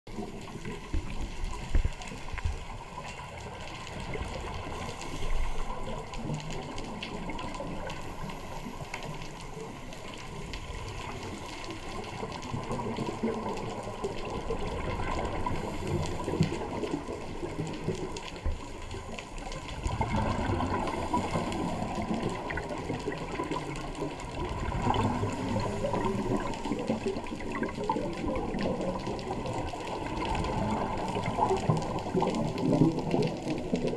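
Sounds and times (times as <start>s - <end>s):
underwater air bubbles gurgling: 0.1s - 33.9s.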